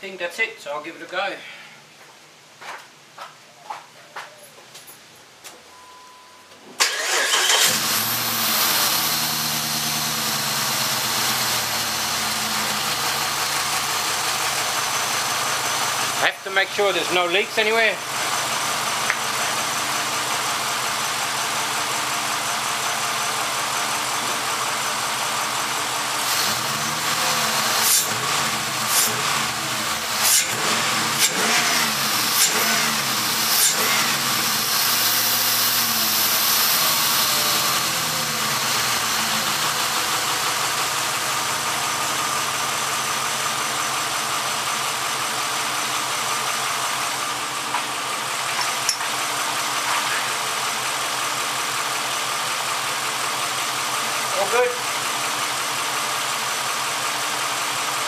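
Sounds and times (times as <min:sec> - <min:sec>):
car engine idling and revving: 0:06.8 - 0:58.0.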